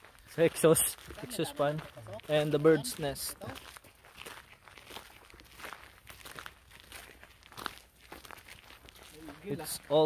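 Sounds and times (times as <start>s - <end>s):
footsteps crunching on ground: 0.0s - 10.0s.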